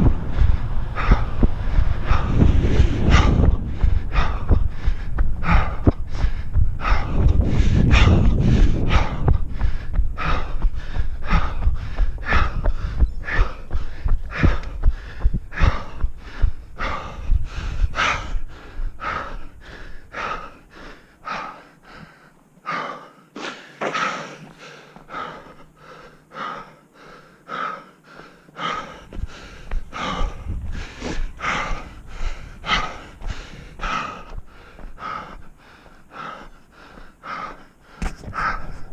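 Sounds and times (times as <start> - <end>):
person breathing hard: 0.0 - 38.9.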